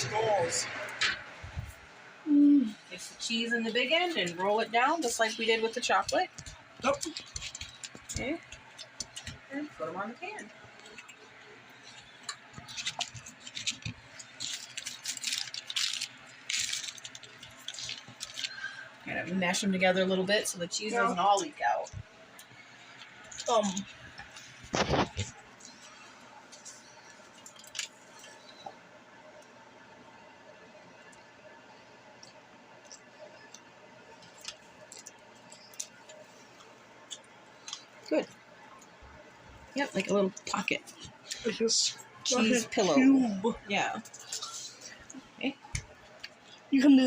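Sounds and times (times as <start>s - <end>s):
faint room hum: 0.0s - 47.0s.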